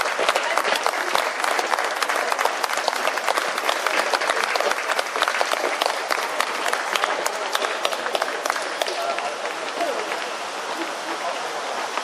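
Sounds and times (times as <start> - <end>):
crowd applause: 0.0 - 12.0.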